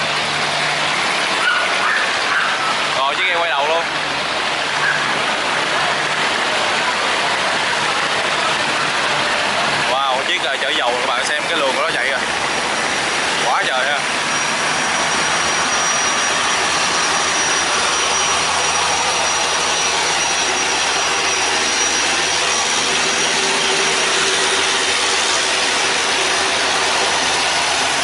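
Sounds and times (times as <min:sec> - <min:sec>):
motorboat engine running: 0:00.0 - 0:28.0
rushing water: 0:00.0 - 0:28.0.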